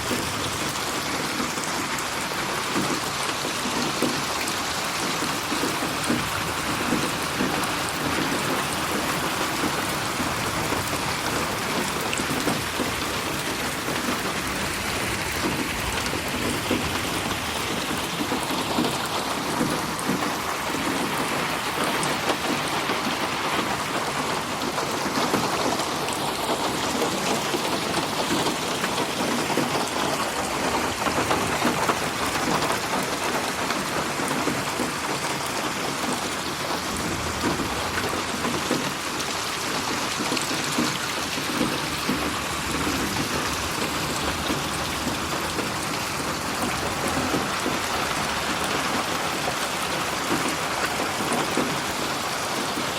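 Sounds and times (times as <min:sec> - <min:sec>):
dense rain falling: 0:00.0 - 0:52.9.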